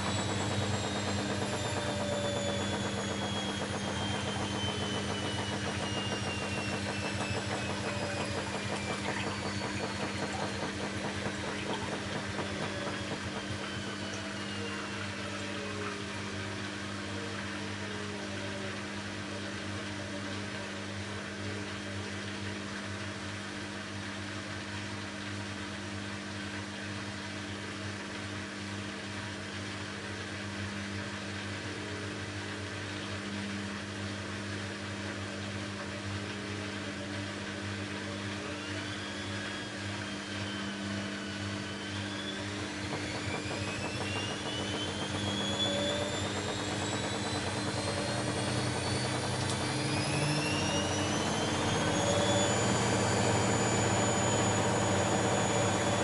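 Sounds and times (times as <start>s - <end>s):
drum motor rising whine: 0.0s - 21.1s, 26.9s - 56.0s
washing machine pump hum: 0.0s - 56.0s.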